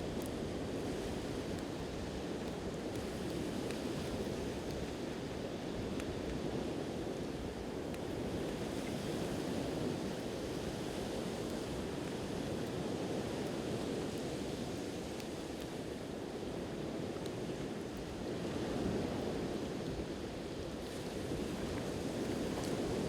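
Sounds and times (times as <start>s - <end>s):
faint campfire crackles: 0.0s - 23.0s.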